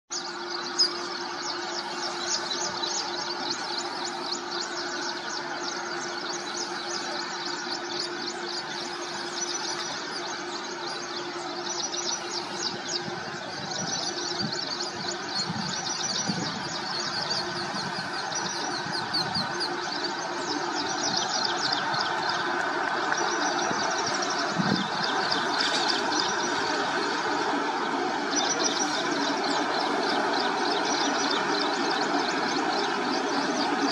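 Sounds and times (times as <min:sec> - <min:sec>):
electric locomotive hum: 0:00.1 - 0:33.9.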